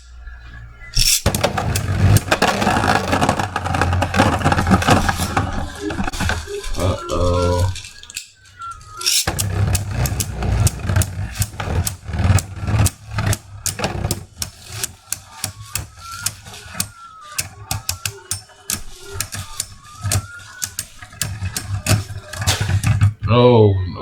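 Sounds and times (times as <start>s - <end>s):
spinning tops whirring: 0.0s - 23.2s
spinning tops clashing: 0.9s - 23.2s.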